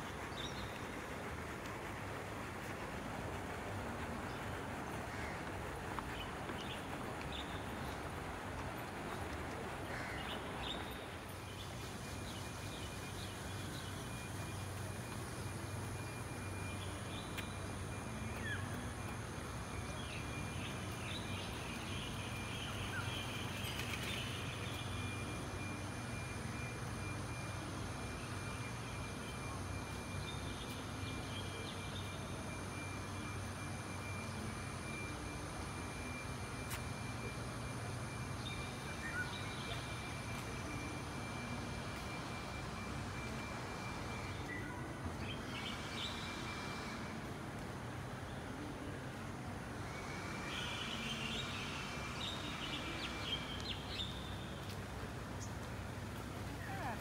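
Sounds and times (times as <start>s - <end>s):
low background hum: 0.0s - 57.0s.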